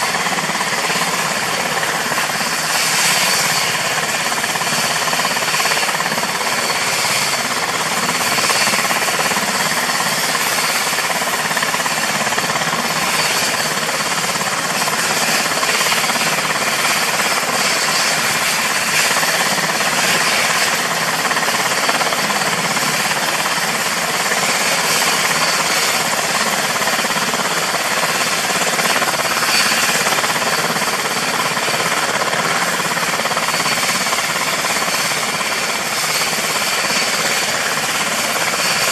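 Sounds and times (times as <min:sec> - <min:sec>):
helicopter rotor chop: 0:00.0 - 0:38.9
high turbine whine: 0:00.0 - 0:38.9.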